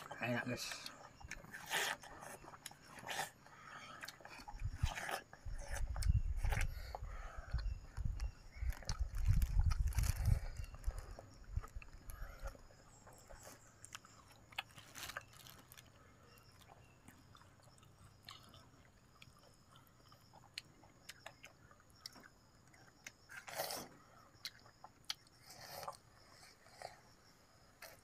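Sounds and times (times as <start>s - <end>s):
wet chewing of watermelon: 0.0s - 28.0s.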